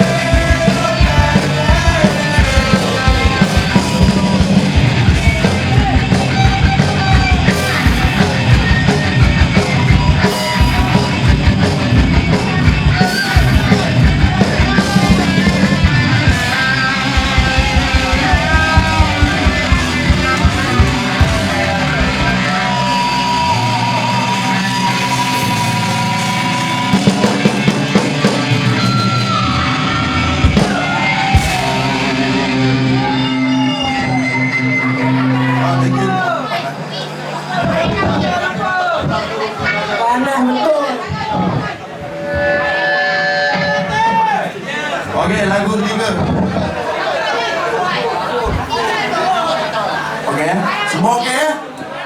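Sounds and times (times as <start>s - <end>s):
shouted vocals: 0.0s - 45.3s
live punk band playing: 0.0s - 52.0s.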